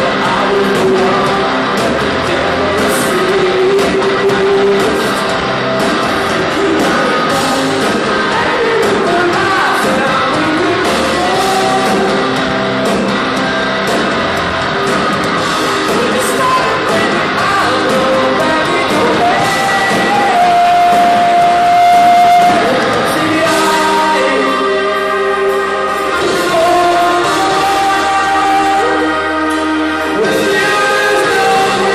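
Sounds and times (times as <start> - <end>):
person singing lead vocal: 0.0 - 31.9
rock band playing live: 0.0 - 31.9.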